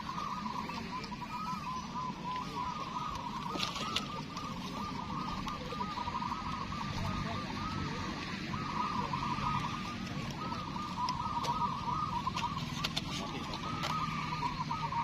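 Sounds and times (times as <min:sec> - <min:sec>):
doves cooing: 0:00.0 - 0:15.0.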